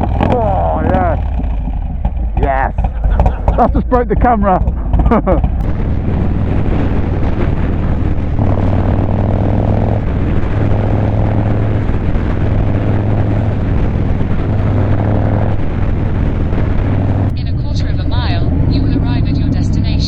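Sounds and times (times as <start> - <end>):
motorcycle engine running: 0.0 - 20.0
wind rushing past microphone: 0.0 - 20.0.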